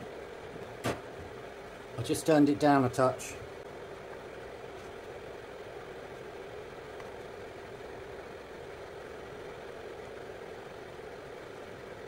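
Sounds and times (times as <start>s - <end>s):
heater blower fan whirring: 0.0s - 12.0s.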